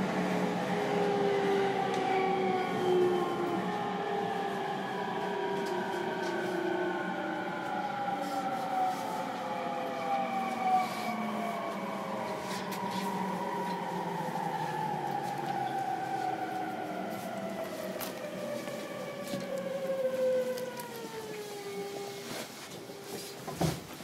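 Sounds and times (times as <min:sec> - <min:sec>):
train rolling noise: 0:00.0 - 0:24.0.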